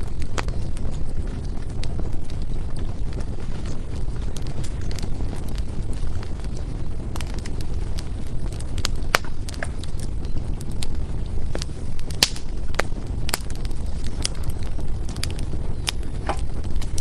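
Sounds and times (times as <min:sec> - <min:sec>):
firewood crackling and popping: 0:00.0 - 0:17.0
low rumble of flame: 0:00.0 - 0:17.0.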